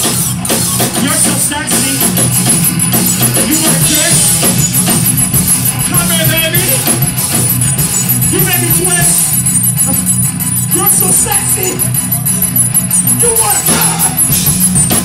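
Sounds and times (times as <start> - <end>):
drums: 0.0 - 15.0.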